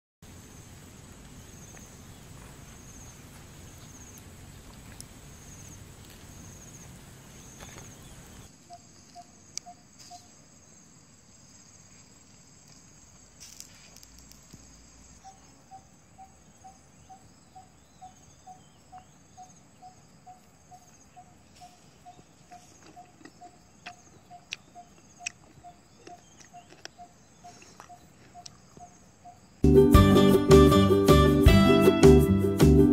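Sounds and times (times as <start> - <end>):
insect chirping: 0.2 - 29.7.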